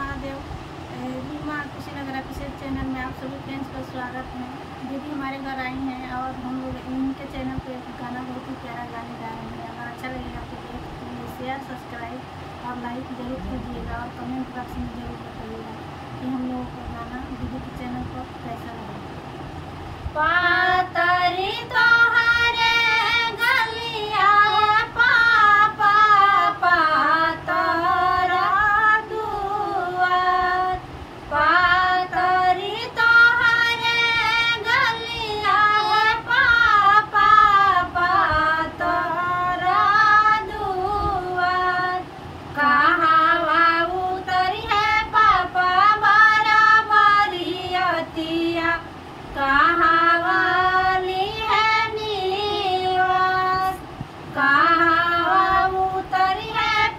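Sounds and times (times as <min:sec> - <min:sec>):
women singing folk song: 0:00.0 - 0:18.8, 0:20.0 - 0:56.9.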